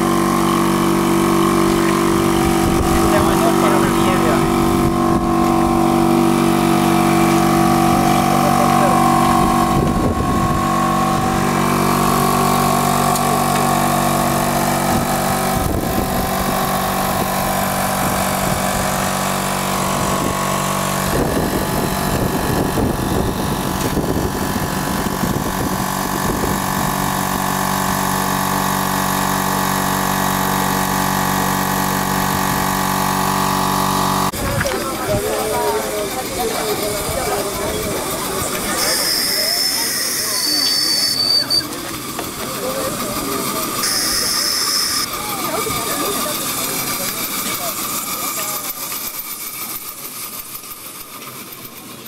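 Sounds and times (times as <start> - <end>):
small machine humming: 0.0 - 52.0.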